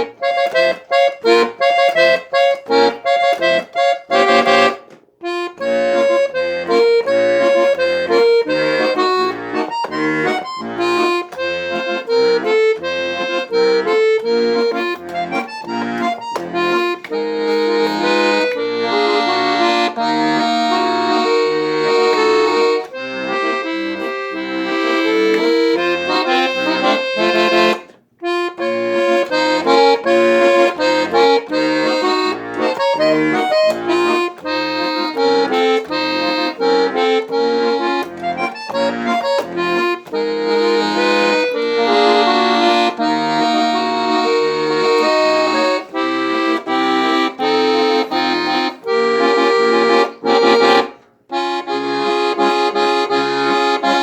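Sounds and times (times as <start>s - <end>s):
accordion playing a melody: 0.0s - 54.0s.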